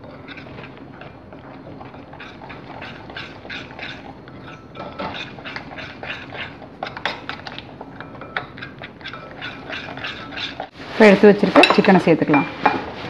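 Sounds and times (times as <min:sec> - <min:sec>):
utensil beating batter in glass bowl: 0:00.0 - 0:10.8.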